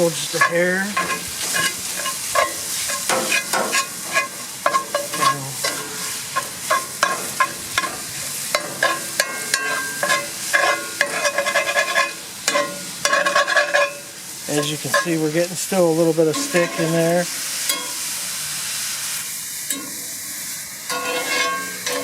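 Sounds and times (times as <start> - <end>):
metal spatula scraping a skillet: 0.0 - 15.4, 16.3 - 18.1, 19.7 - 22.0
meat sizzling: 0.0 - 22.0.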